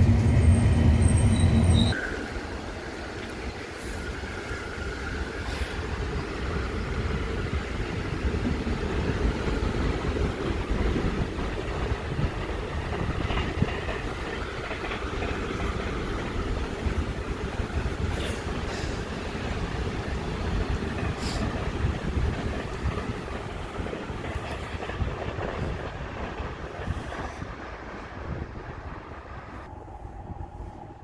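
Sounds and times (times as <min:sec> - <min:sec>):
electric train rumble and hum: 0:00.0 - 0:31.0.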